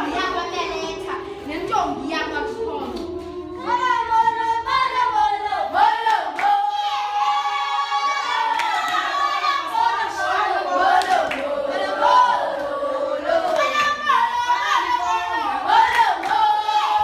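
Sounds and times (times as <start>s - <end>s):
high voices singing: 0.0s - 17.0s.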